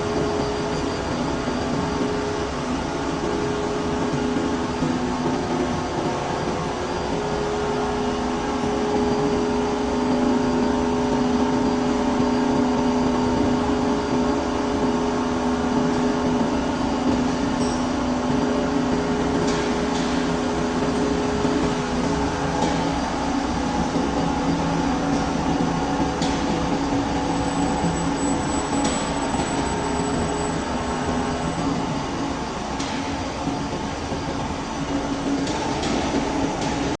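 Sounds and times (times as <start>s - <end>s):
metal-cutting machine humming: 0.0s - 36.9s
thin high whine: 0.0s - 37.0s.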